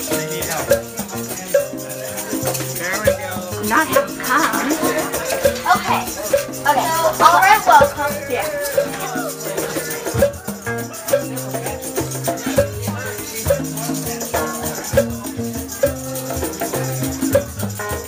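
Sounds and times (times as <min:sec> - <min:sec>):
music with steady beat and bass: 0:00.0 - 0:18.0.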